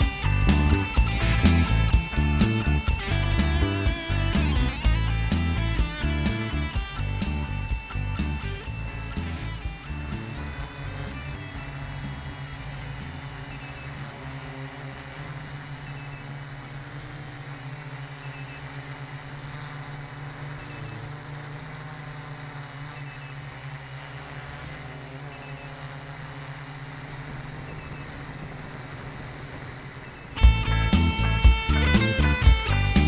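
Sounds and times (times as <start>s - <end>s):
drone propellers humming: 0.0s - 33.0s.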